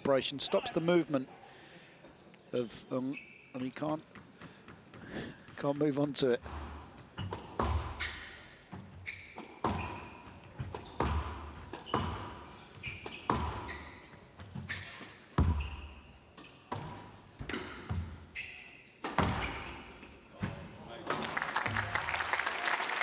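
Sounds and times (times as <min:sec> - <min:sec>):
court shoes squeaking on wood: 0:02.8 - 0:21.2.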